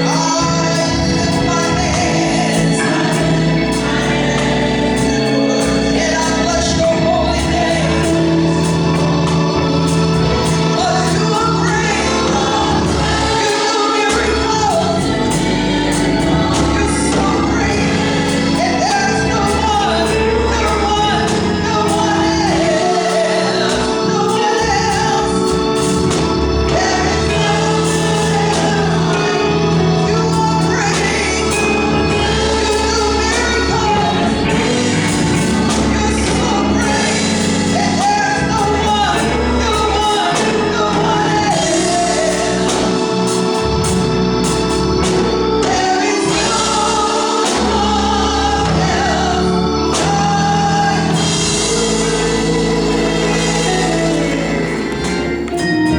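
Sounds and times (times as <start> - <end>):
choir singing gospel music: 0.0 - 55.9.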